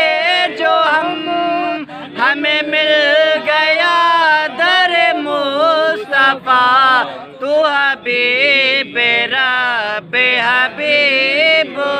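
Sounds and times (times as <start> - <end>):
man singing long held notes: 0.0 - 11.9.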